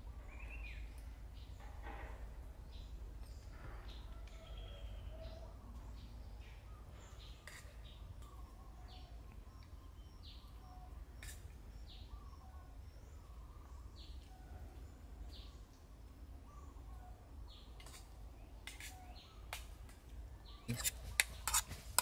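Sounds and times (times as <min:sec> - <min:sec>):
birds chirping: 0:02.7 - 0:22.0.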